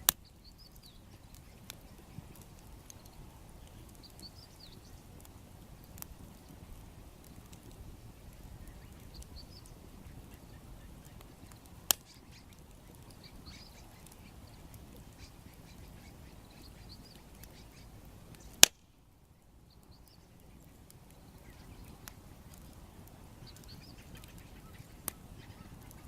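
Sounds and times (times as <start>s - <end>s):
burning wood popping: 0.0s - 26.0s
low fire rumble: 0.0s - 26.0s
faint bird calls: 0.1s - 5.3s, 7.3s - 18.6s, 19.3s - 26.0s.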